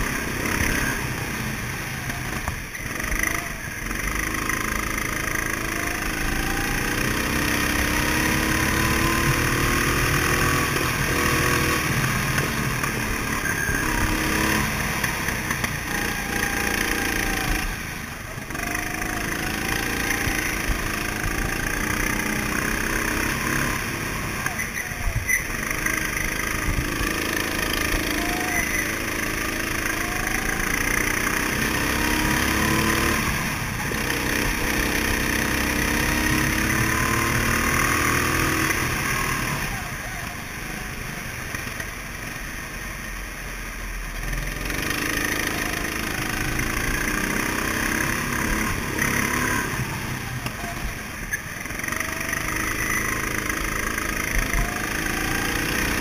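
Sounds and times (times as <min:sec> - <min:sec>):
go-kart engines accelerating: 0:00.0 - 0:56.0.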